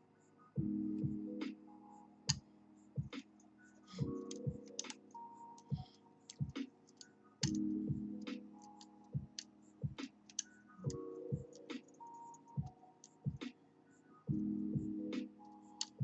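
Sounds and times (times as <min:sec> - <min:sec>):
synth music with low beat: 0:00.2 - 0:16.0.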